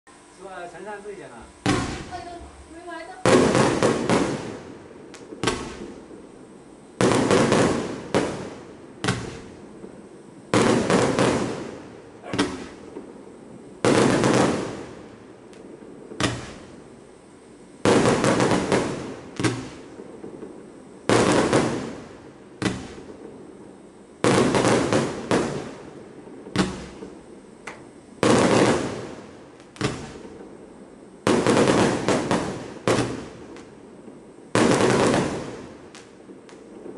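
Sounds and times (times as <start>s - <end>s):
fireworks bangs with rumble: 0.7s - 17.0s, 17.8s - 36.9s.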